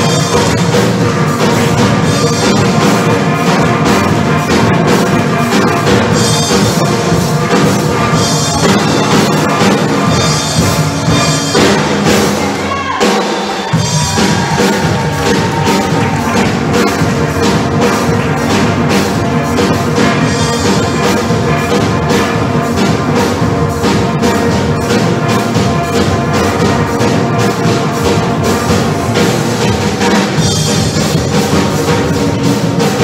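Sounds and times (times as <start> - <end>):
drum kit: 0.0 - 33.0.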